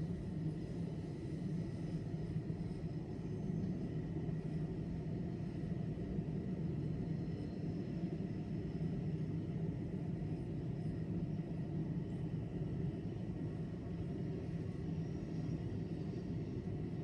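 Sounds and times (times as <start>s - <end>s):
faint high whine: 0.0s - 17.0s
railway station rumble: 0.0s - 17.0s.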